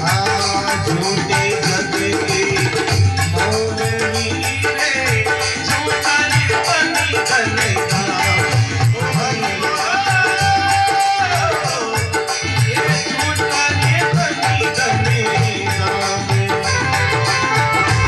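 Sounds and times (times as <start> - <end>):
hand drum beat: 0.0 - 18.0
jingling rattle percussion: 0.0 - 18.0.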